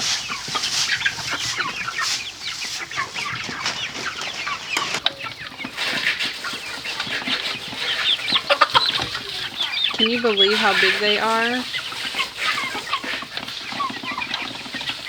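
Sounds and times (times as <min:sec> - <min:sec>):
chickens cheeping and clucking: 0:00.0 - 0:15.0.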